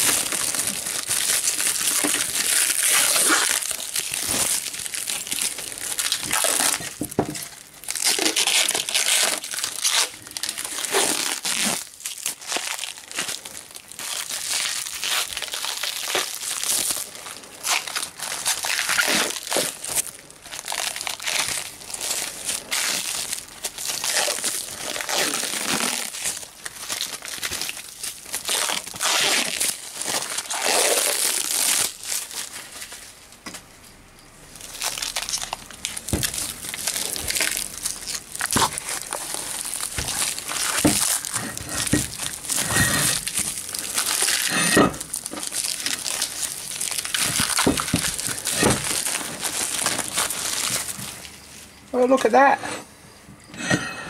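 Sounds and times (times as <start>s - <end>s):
plastic wrap crinkling: 0.0s - 33.8s, 34.4s - 52.5s.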